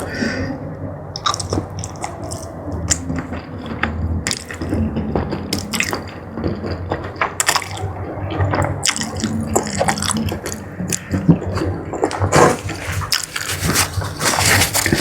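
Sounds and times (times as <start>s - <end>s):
wet chewing and mouth smacking: 1.2s - 15.0s.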